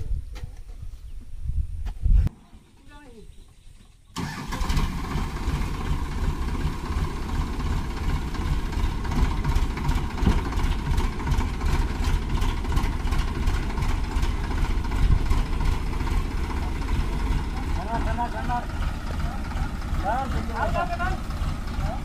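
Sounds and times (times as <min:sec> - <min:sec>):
diesel tractor engine running: 0:04.2 - 0:22.0.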